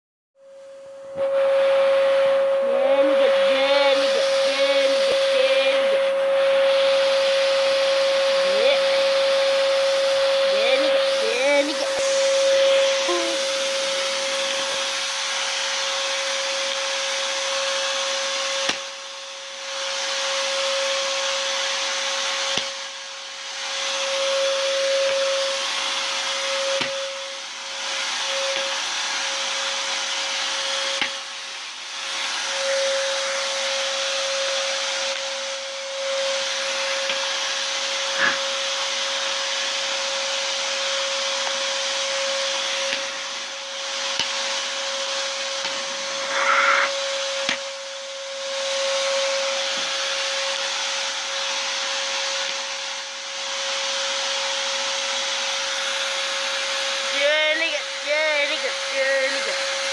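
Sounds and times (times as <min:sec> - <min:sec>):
vacuum cleaner running: 0:00.4 - 0:59.9.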